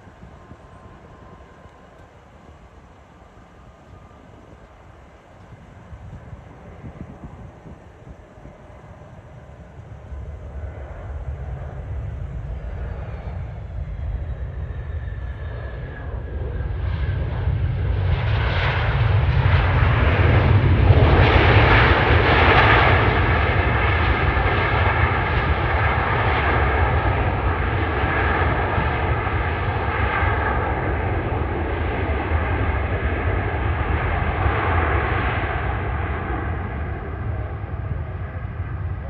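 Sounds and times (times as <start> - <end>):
jet engines whining: 0.0 - 39.0.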